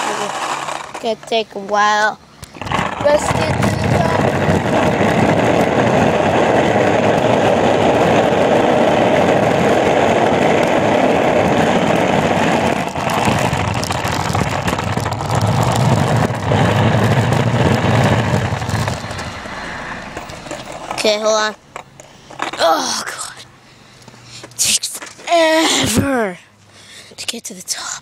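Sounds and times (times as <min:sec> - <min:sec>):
skateboard wheels rolling on pavement: 0:00.0 - 0:26.1.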